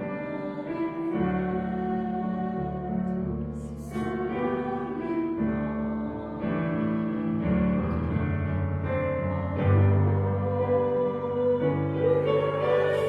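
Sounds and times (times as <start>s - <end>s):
piano playing held chords: 0.0s - 13.0s.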